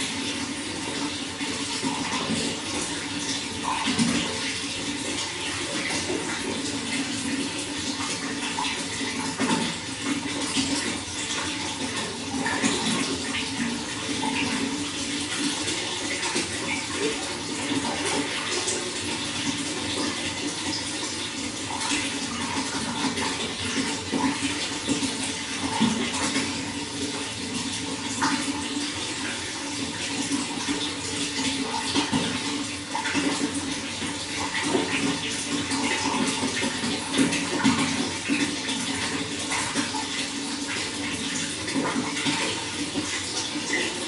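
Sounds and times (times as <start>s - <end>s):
running water splashing: 0.0s - 44.0s.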